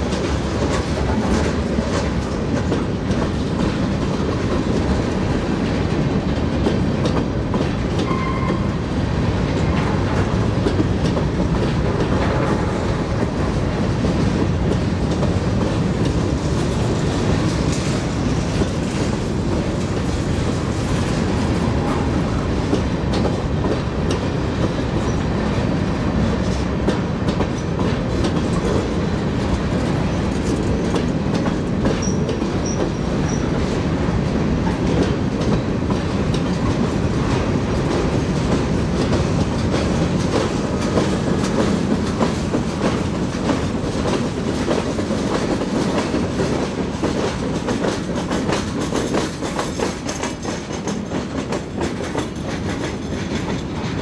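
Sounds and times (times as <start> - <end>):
freight train rumbling: 0.0 - 54.0
wheels clacking over rail joints: 0.0 - 54.0.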